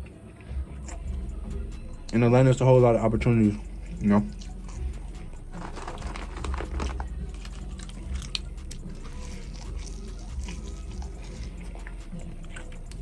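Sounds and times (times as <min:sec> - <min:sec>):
chewing and crunching food: 0:00.0 - 0:13.0
steady low hum: 0:00.0 - 0:13.0.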